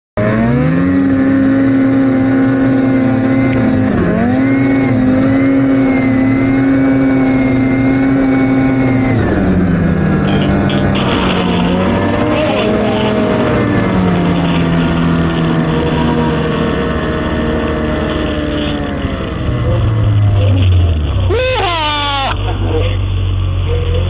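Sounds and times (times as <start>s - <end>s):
vehicle engine running: 0.2s - 24.0s.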